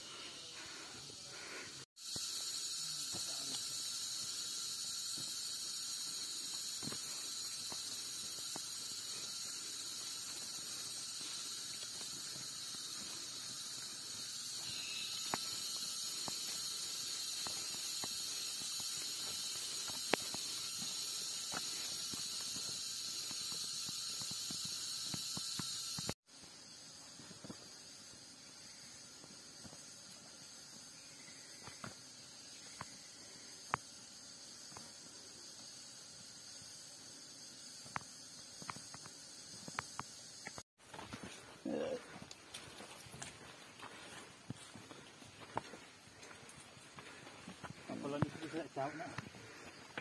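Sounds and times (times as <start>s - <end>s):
insects chorus drone: 0.0s - 50.0s.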